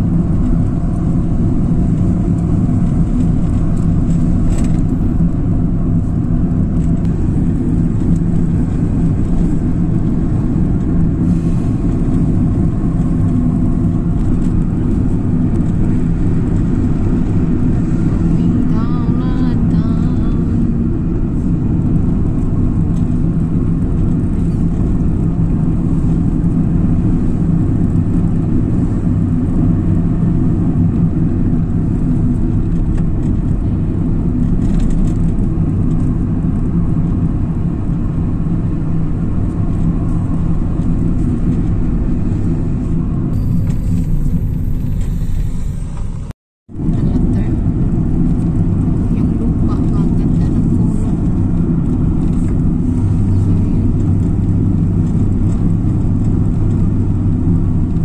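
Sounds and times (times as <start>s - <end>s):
car engine rumble: 0.0s - 58.0s.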